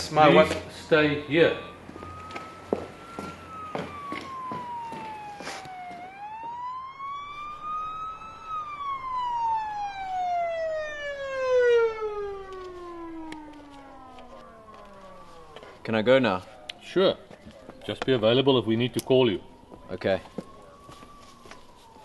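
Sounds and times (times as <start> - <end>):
emergency vehicle siren wailing: 0.0 - 22.0.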